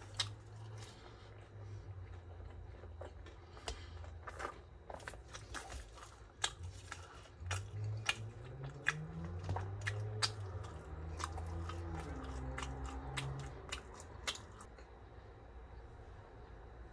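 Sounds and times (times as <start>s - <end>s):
chewing crunchy food: 0.0s - 14.8s
closed-mouth humming: 0.0s - 14.9s.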